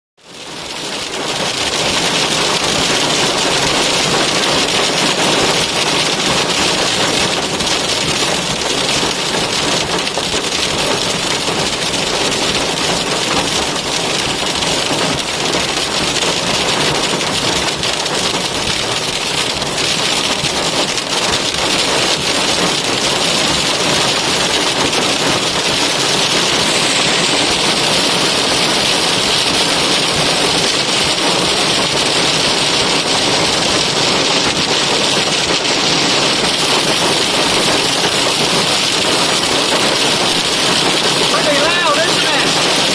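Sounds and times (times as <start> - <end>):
hail pelting a car: 0.3 - 42.9.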